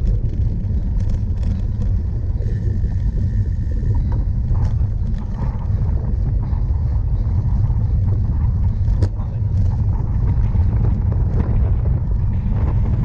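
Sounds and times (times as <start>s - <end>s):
bicycle rolling over rough ground: 0.0s - 13.0s
bike rattles and clicks: 0.0s - 13.0s
wind rumbling on microphone: 0.0s - 13.0s.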